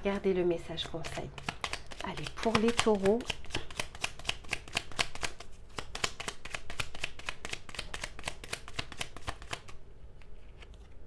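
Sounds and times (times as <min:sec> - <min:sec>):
cards being shuffled: 0:00.8 - 0:11.0.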